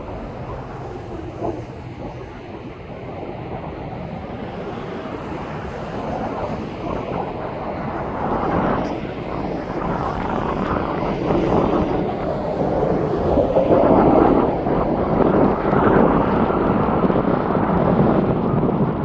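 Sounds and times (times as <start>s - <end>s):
aircraft engine rushing: 0.0s - 19.0s.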